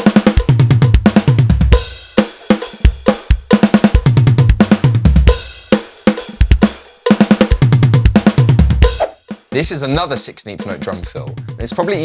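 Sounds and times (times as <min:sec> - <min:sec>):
drum kit playing: 0:00.0 - 0:12.0.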